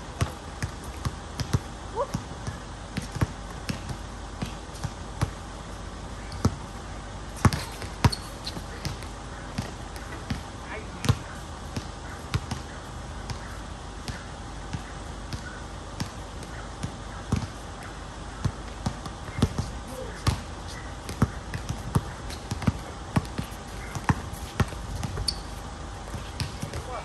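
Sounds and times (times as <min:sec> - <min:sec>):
basketball bouncing on hard court: 0:00.2 - 0:05.4, 0:06.2 - 0:06.7, 0:07.4 - 0:17.6, 0:18.4 - 0:27.0.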